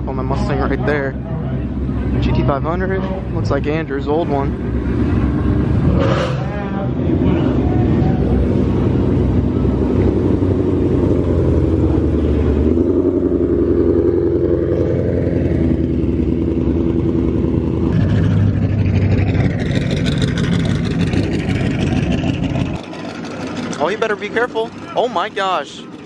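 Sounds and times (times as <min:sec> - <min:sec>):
car engine driving away: 0:00.1 - 0:25.2.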